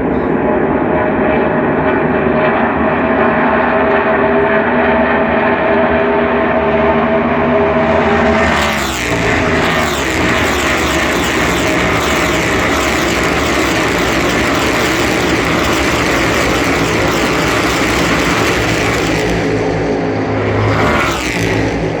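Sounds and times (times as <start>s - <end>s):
race car engines passing: 3.6s - 22.0s.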